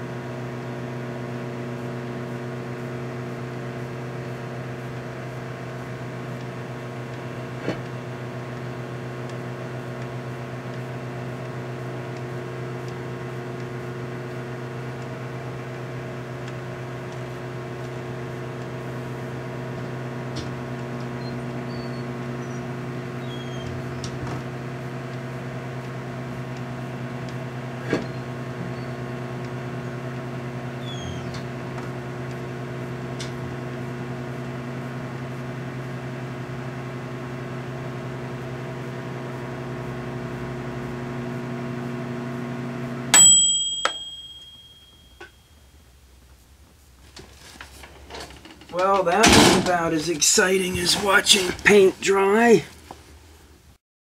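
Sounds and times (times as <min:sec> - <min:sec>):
microwave oven humming: 0:00.0 - 0:53.8.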